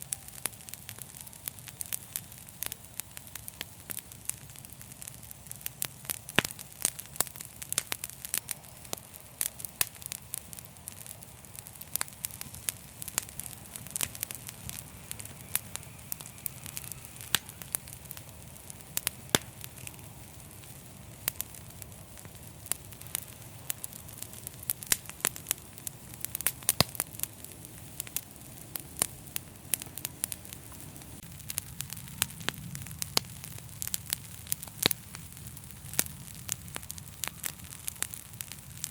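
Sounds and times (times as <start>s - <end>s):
fire low rumble and hiss: 0.0s - 38.9s
wood fire crackling and popping: 0.0s - 38.9s.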